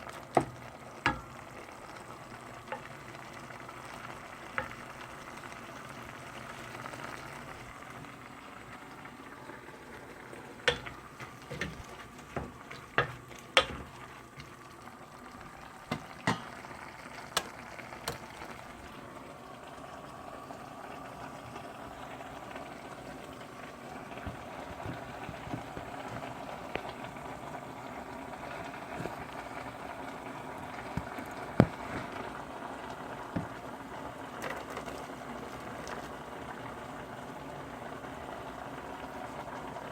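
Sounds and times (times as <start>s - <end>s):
food bubbling in pot: 0.0s - 39.9s.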